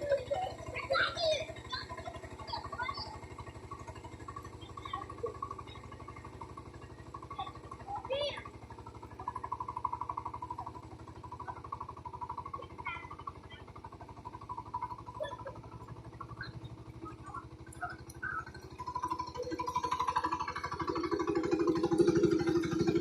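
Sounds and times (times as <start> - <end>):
ploughing machine engine putter: 0.0 - 23.0.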